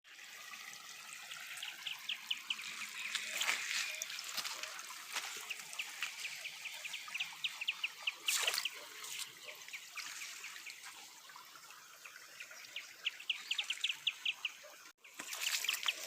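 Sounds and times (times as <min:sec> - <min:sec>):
water splashes: 0:00.0 - 0:16.0
water trickling over spillway: 0:00.0 - 0:16.0.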